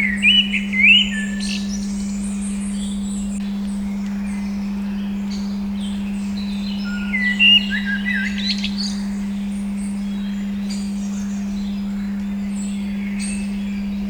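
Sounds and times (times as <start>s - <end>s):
birds chirping: 0.0s - 14.0s
steady tone humming: 0.0s - 14.0s
sweeping bird calls: 0.0s - 14.0s.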